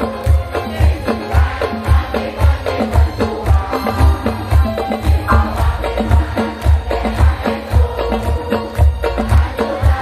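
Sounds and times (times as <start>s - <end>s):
live devotional music over loudspeakers: 0.0s - 10.0s
heavy bass drum beat: 0.3s - 10.0s.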